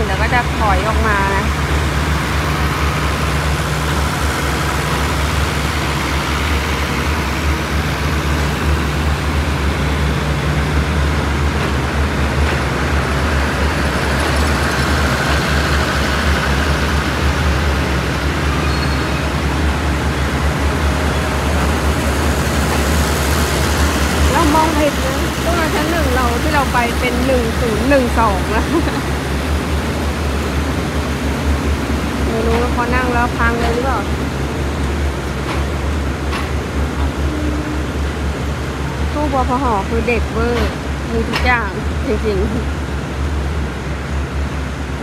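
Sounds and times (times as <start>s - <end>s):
diesel engine droning: 0.0s - 44.9s
train carriages rolling past: 0.0s - 45.0s.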